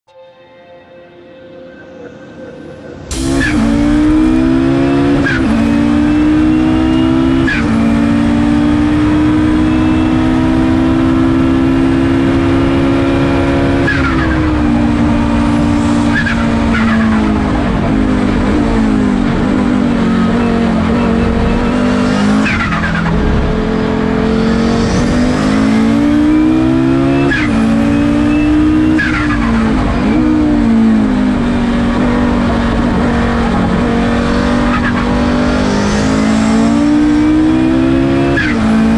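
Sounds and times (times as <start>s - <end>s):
racing car engine: 2.8s - 38.9s.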